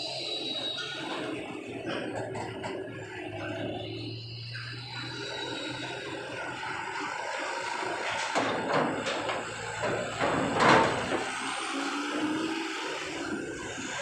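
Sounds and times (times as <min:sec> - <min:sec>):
diesel truck engines running: 0:00.0 - 0:14.0
trucks driving down steel ramp: 0:00.0 - 0:14.0.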